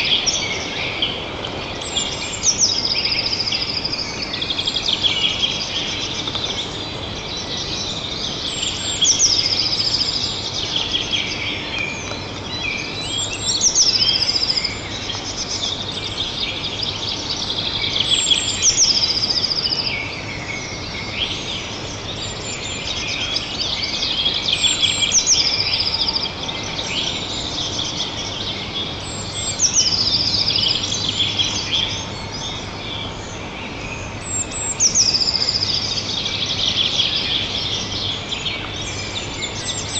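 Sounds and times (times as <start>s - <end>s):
songbirds singing in chorus: 0.0s - 39.9s.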